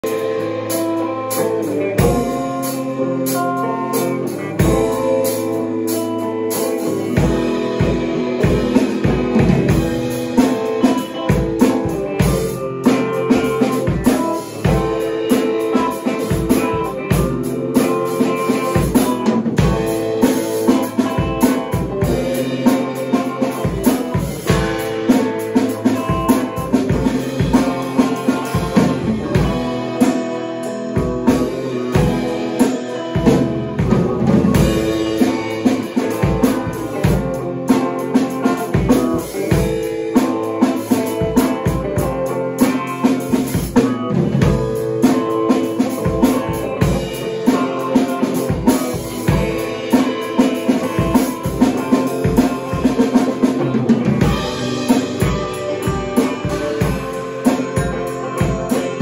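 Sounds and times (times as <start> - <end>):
drum kit steady beat: 0.0 - 59.0
guitar chords: 0.0 - 59.0.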